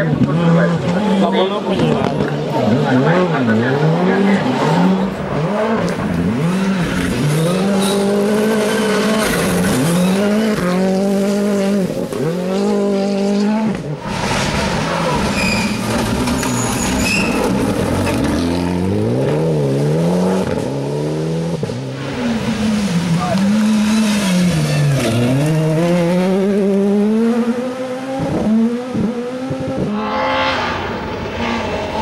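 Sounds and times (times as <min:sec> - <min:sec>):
rally car engines at full throttle: 0:00.0 - 0:32.0.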